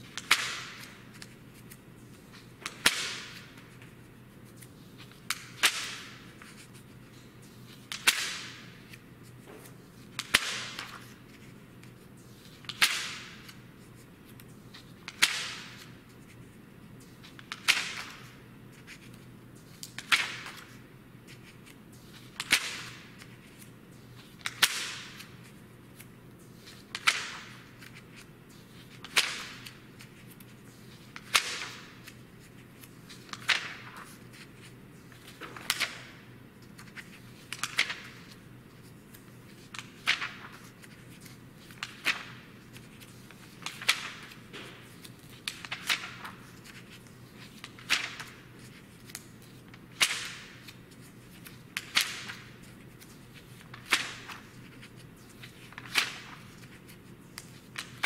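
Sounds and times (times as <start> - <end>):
magazine pages turning: 8.8 - 58.0.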